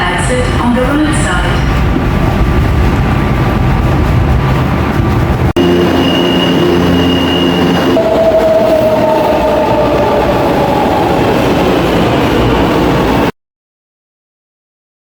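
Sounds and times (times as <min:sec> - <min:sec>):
train rumbling on rails: 0:00.0 - 0:13.4.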